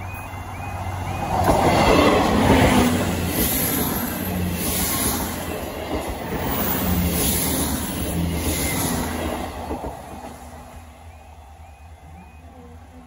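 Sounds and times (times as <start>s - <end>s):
diesel train passing: 0.0s - 13.0s
wheel and rail noise: 0.0s - 13.0s.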